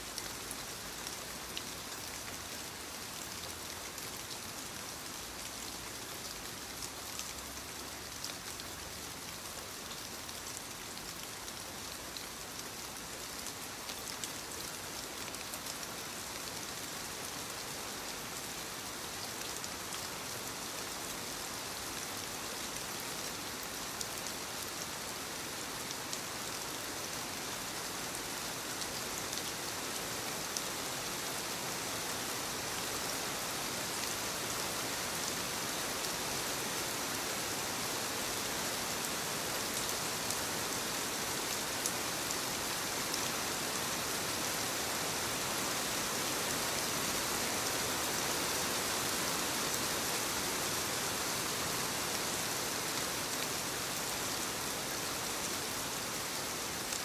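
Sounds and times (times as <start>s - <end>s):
soft rain falling on leaves: 0.0s - 57.0s.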